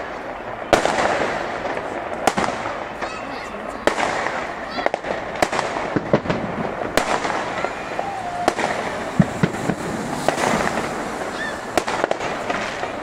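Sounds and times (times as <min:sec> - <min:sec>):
fireworks crackling: 0:00.0 - 0:13.0
fireworks sharp bangs: 0:00.0 - 0:13.0.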